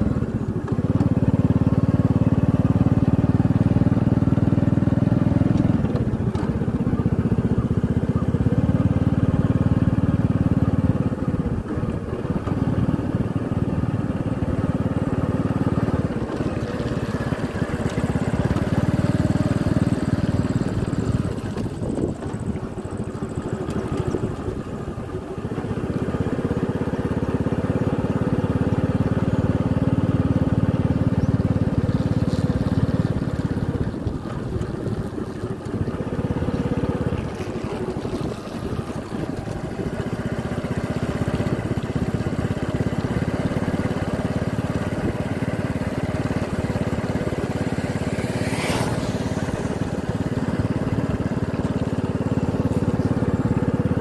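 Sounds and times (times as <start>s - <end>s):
motorcycle engine and road rumble: 0.0s - 54.0s.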